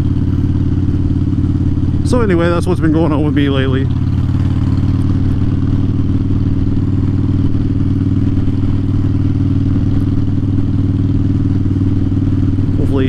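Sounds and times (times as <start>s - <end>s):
motorcycle engine running steadily: 0.0s - 13.0s.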